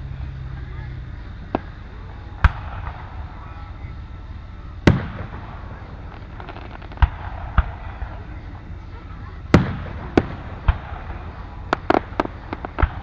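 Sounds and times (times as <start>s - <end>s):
faint crackling: 0.0s - 13.0s
fireworks bursting: 0.0s - 13.0s.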